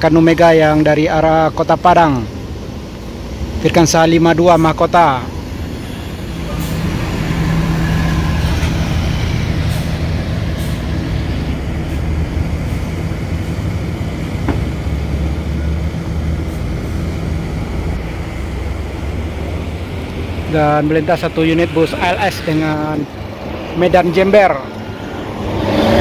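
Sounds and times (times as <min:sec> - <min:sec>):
bus diesel engine passing: 0:00.0 - 0:26.0.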